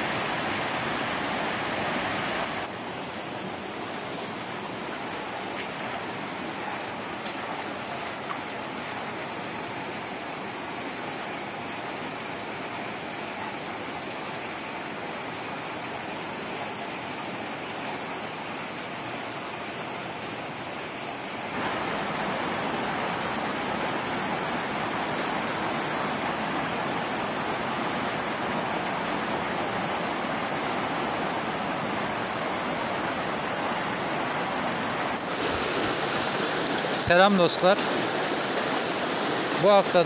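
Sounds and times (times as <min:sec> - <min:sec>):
creek rushing over boulders: 0:00.0 - 0:40.0.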